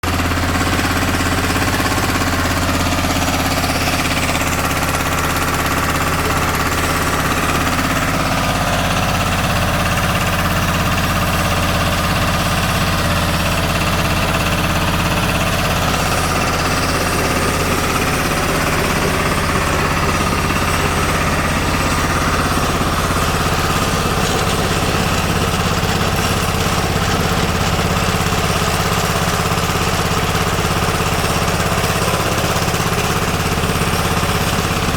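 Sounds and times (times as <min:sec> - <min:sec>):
pellet mill mechanical drone: 0:00.0 - 0:34.9.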